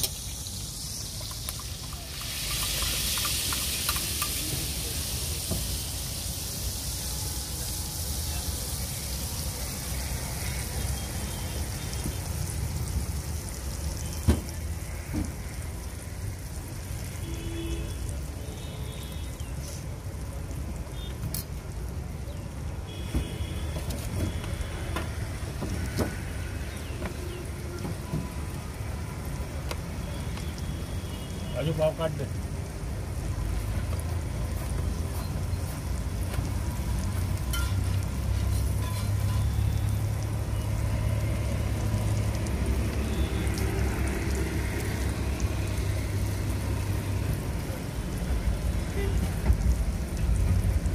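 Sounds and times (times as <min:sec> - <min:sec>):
egg sizzling on griddle: 0:00.0 - 0:50.9.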